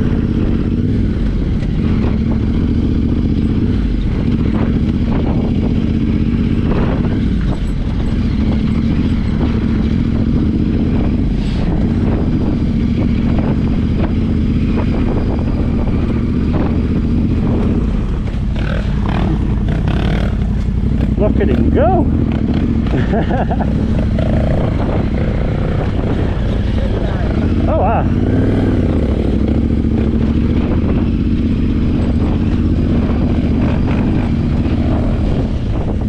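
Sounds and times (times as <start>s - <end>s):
motorcycle engine droning: 0.0s - 36.0s.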